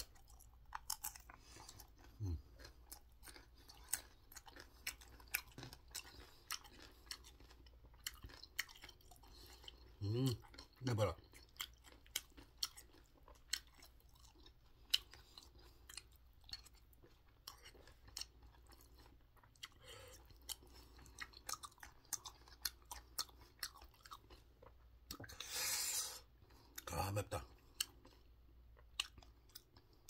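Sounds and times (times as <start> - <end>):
chewing food: 0.0 - 25.6, 26.2 - 30.0.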